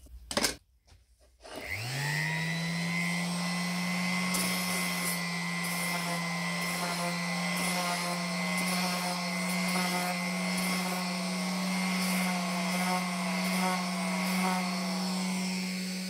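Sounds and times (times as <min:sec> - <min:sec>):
electric orbital sander on metal: 0:01.5 - 0:16.0.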